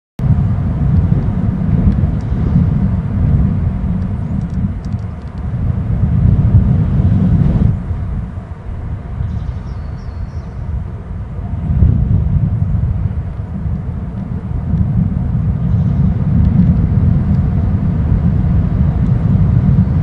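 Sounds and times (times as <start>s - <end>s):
wind buffeting a microphone: 0.2s - 20.0s.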